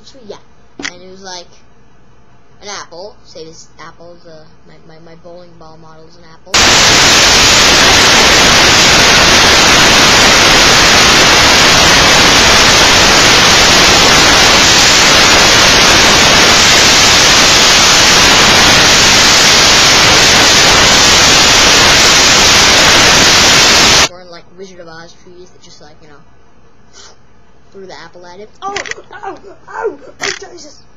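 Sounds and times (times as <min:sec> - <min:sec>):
loud static hiss: 0:00.0 - 0:30.9.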